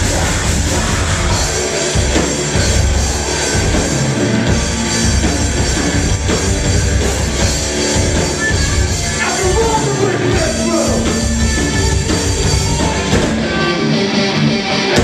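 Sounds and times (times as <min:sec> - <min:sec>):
drum kit: 0:00.0 - 0:15.0
electric guitars: 0:00.0 - 0:15.0.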